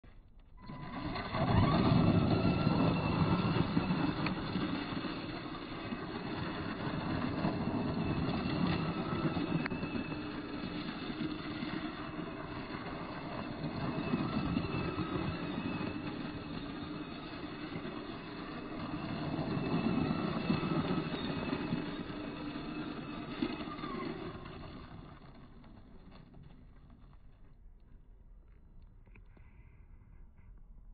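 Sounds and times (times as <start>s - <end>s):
electric motor whining: 0.6s - 26.3s.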